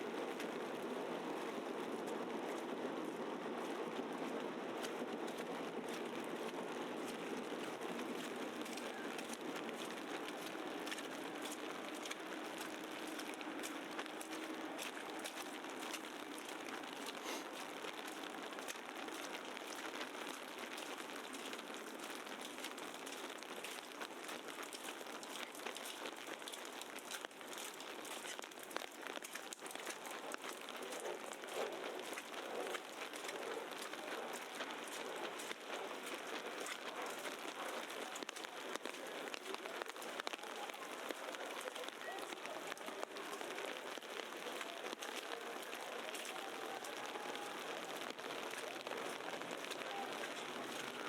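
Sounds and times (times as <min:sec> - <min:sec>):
wet snow crackling patter: 0:00.0 - 0:51.0.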